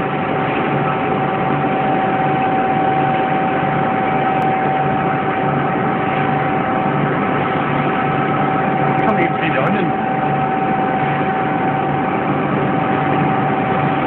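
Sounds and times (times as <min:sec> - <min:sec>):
constant whine: 0:00.0 - 0:14.0
low pulsing throb: 0:00.0 - 0:14.0
machine hum: 0:00.0 - 0:14.0.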